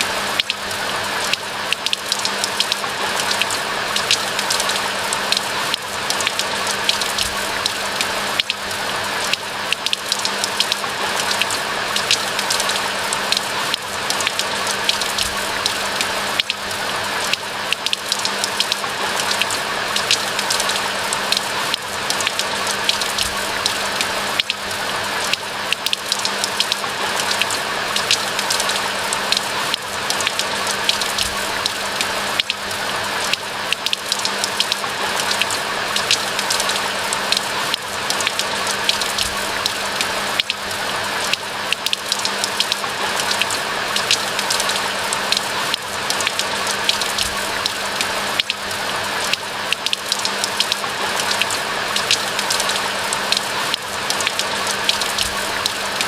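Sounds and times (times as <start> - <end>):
raindrops pattering: 0.0 - 56.0.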